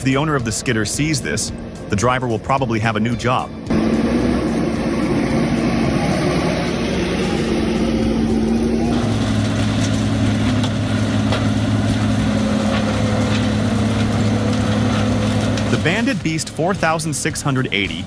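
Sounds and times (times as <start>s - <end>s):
deep engine hum: 0.0s - 18.0s
heavy machinery engine running: 0.0s - 18.0s.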